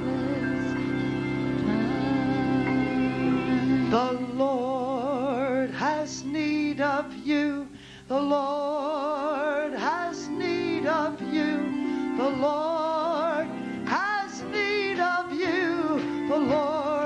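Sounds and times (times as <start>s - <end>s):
held instrumental chords: 0.0s - 17.0s
woman singing with vibrato: 0.0s - 17.0s.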